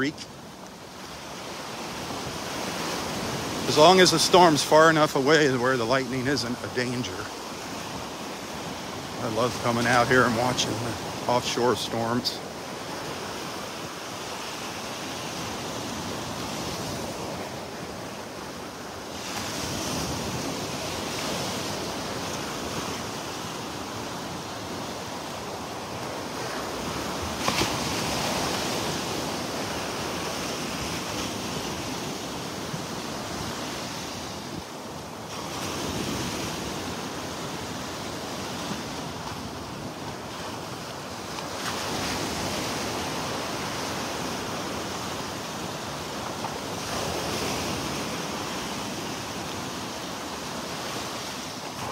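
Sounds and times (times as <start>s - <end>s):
surf waves washing ashore: 0.0s - 51.9s.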